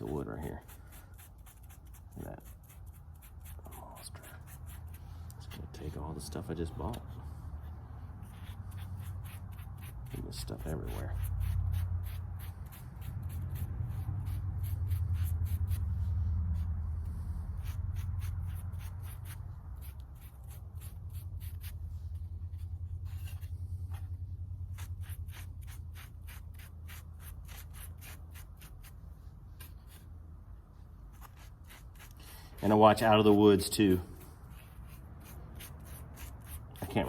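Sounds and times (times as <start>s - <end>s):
foam brush rubbing on wood: 0.0s - 30.1s, 31.0s - 37.0s.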